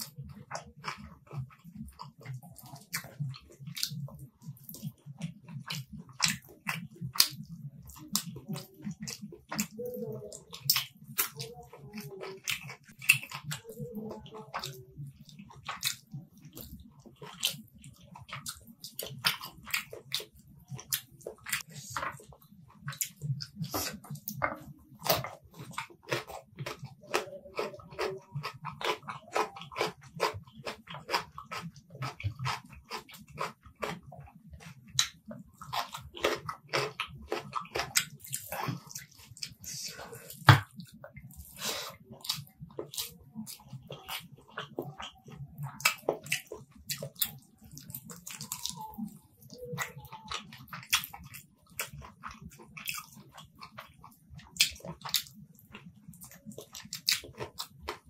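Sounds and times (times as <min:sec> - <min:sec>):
wet chewing and lip smacks: 0:00.0 - 0:58.0.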